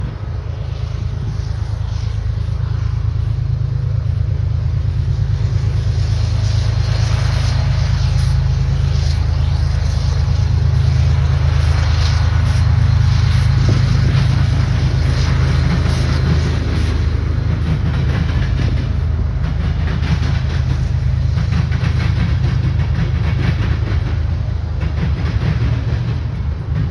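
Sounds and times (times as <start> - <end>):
diesel locomotive engine rumbling: 0.0 - 26.9.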